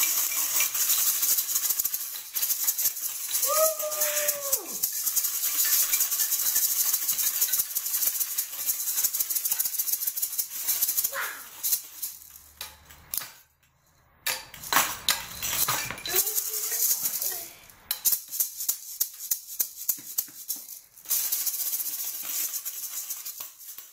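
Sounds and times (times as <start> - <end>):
rattles and shakers shaking: 0.0 - 23.9.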